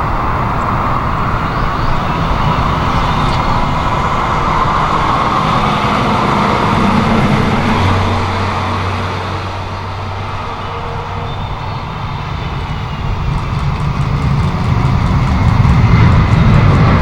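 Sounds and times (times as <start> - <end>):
jet engine roar: 0.0 - 17.0
low hum: 0.0 - 17.0.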